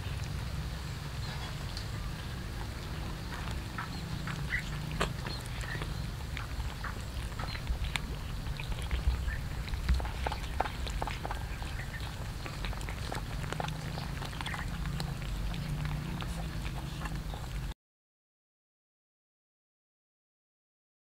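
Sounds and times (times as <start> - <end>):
cats chewing and smacking: 0.0 - 17.8.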